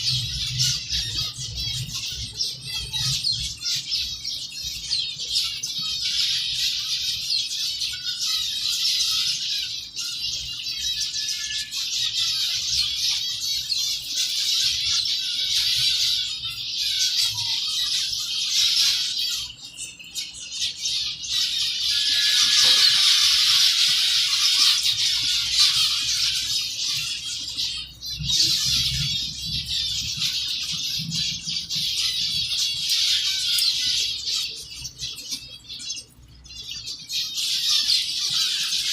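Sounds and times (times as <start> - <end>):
finches chattering: 0.0 - 38.9.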